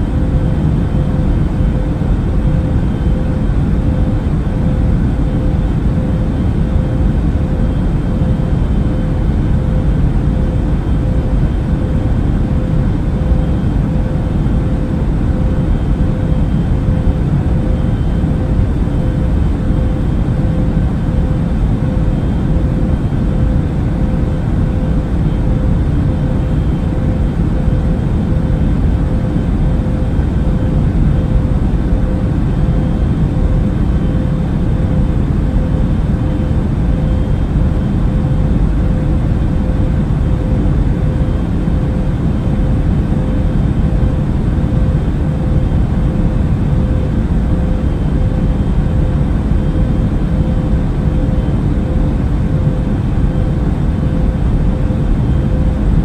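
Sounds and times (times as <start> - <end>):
airliner engines droning: 0.0 - 56.0
faint hum: 0.0 - 56.0.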